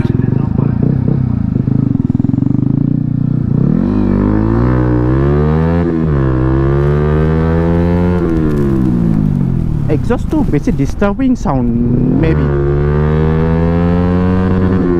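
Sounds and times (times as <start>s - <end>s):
motorcycle accelerating: 0.0s - 14.9s.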